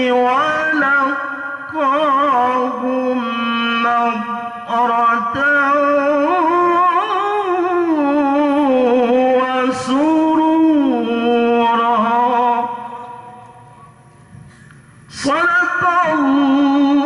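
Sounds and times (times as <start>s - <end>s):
man chanting through microphone: 0.0s - 17.0s.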